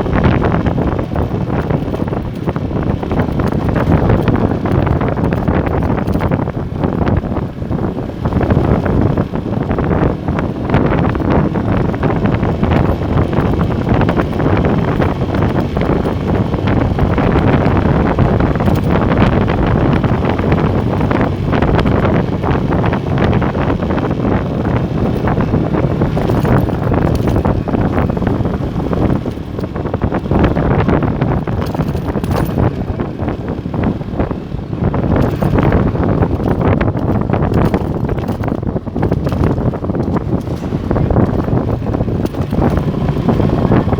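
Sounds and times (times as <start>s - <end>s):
motorcycle engine running: 0.0s - 43.9s
road noise: 0.0s - 43.9s
wind buffeting microphone: 0.0s - 43.9s.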